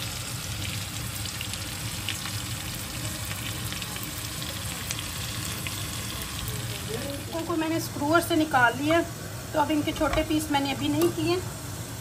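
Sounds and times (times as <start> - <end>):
skewers sizzling on a griddle: 0.0 - 12.0.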